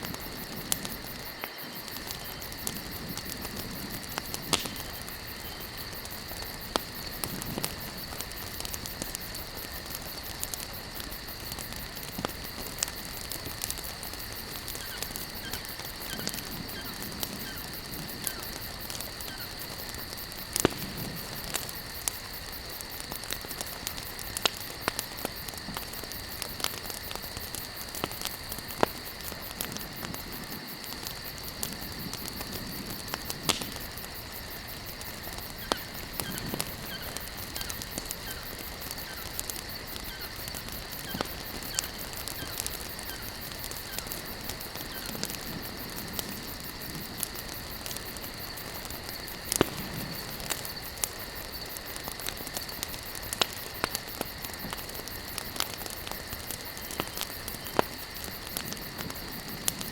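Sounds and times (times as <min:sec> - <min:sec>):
campfire crackling and popping: 0:00.0 - 0:59.9
high insect drone: 0:00.0 - 0:59.9.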